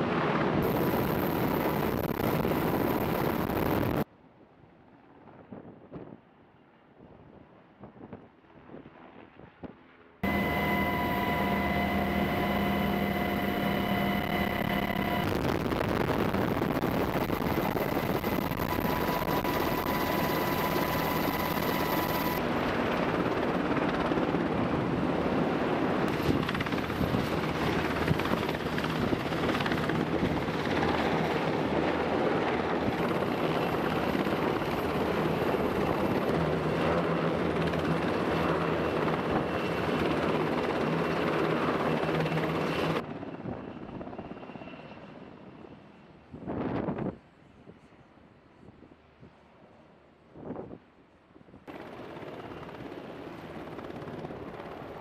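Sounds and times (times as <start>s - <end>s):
helicopter rotor and turbine whir: 0.0s - 4.1s, 6.2s - 50.9s, 51.6s - 55.0s.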